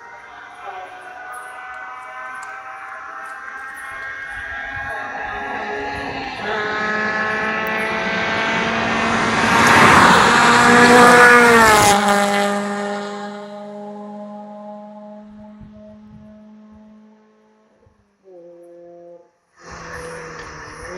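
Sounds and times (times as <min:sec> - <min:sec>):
car exhaust note: 0:00.0 - 0:20.9.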